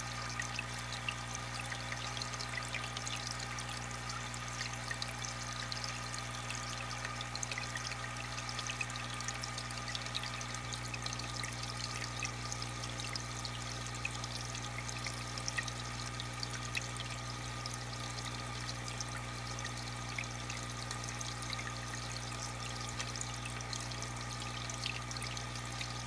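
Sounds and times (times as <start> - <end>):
water pouring and trickling: 0.0 - 26.0.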